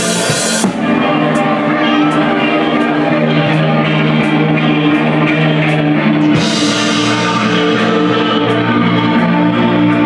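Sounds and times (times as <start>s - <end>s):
effects-laden electric guitar chords: 0.0s - 10.0s.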